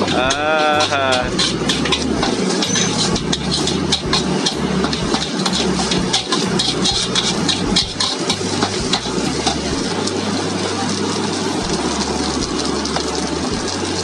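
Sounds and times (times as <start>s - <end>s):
metal spatula scraping a wok: 0.0s - 13.2s
rice sizzling in a wok: 0.0s - 14.0s.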